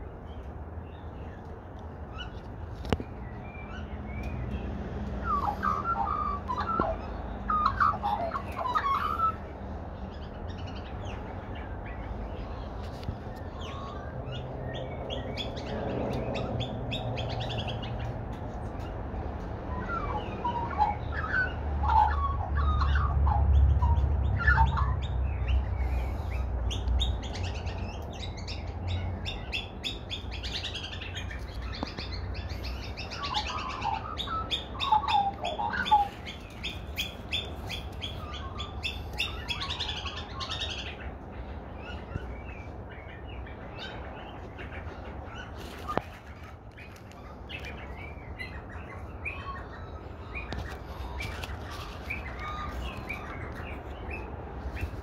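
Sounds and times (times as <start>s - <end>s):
magpies and birds calling: 0.0s - 55.0s.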